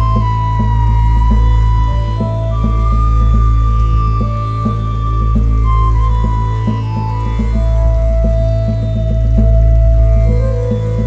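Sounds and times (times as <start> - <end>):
long held melody line: 0.0 - 11.0
low drone: 0.0 - 11.0
plucked pattern: 0.0 - 11.0.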